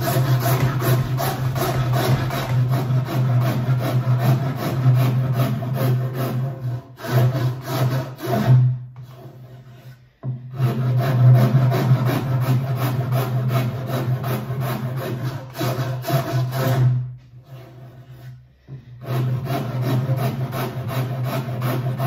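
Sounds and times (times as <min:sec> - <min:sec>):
hand rasp filing wood: 0:00.0 - 0:22.0.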